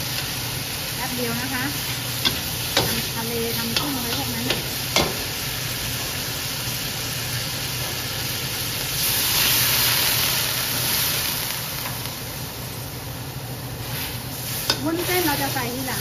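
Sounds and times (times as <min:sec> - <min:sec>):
meat sizzling in wok: 0:00.0 - 0:16.0.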